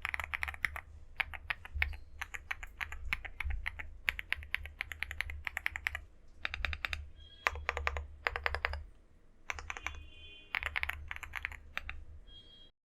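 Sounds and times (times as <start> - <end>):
typing on a mechanical keyboard: 0.0 - 8.9, 9.5 - 12.1.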